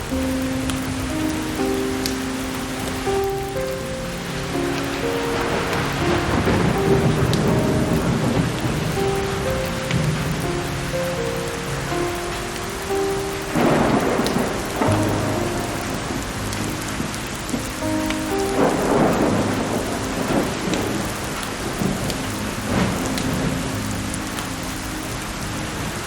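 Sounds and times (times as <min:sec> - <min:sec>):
heavy rain: 0:00.0 - 0:26.0
soft sustained music notes: 0:00.0 - 0:26.0
thunder rumbling and cracking: 0:00.0 - 0:26.0.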